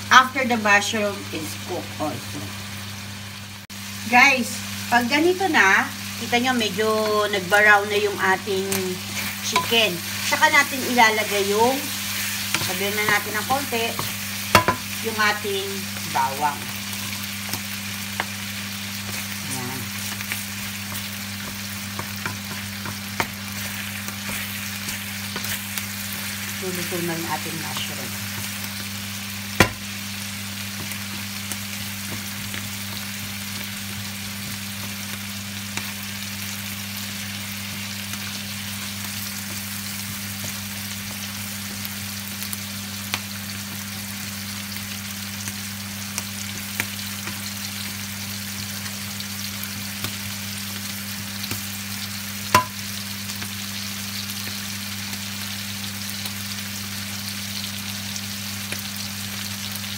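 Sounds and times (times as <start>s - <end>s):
food sizzling in a frying pan: 0.0s - 59.9s.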